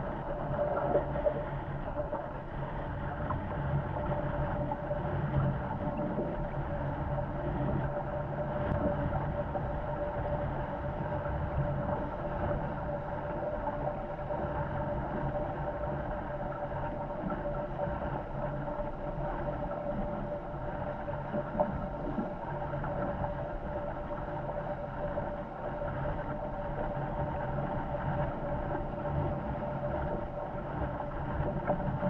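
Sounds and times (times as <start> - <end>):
thin steady hum: 0.0 - 32.0.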